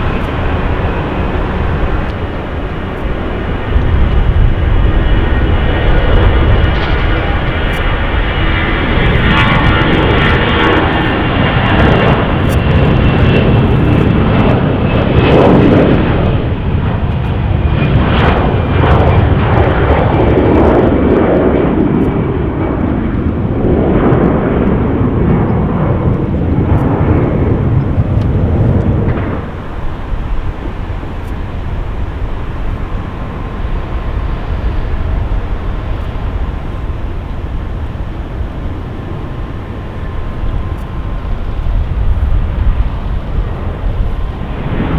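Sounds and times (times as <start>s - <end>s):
faint engine whine: 0.0s - 44.9s
jet airliner engines rumbling: 0.0s - 44.9s.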